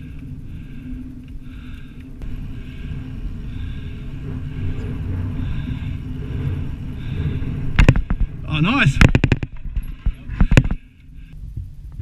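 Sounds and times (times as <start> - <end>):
bike tyres rolling over sand: 0.0 - 11.9
wind buffeting camera: 0.0 - 12.0.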